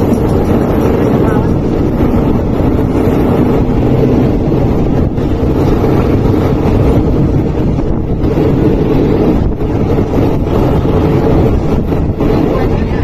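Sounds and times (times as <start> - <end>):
train carriage rumble: 0.0 - 13.0
wind rushing over microphone: 0.0 - 13.0.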